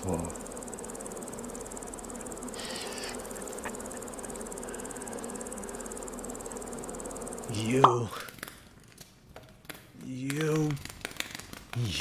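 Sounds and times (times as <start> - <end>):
swarm of insects buzzing: 0.0 - 12.0.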